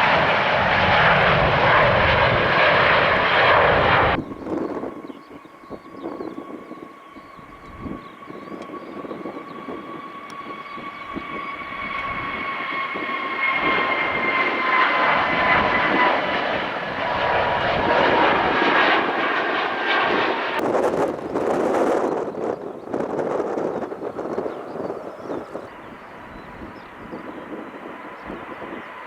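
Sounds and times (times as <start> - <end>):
jet airliner engines roaring: 0.0 - 29.0.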